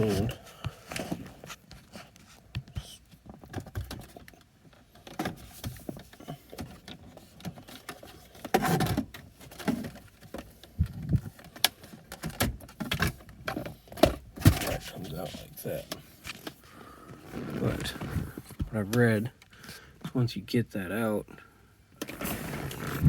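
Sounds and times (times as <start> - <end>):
handling noise: 0.0 - 19.1.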